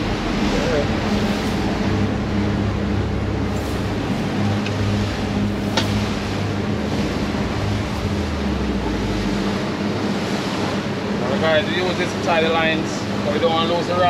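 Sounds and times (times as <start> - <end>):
boat engine running: 0.0 - 14.0
rush of wind and water: 0.0 - 14.0.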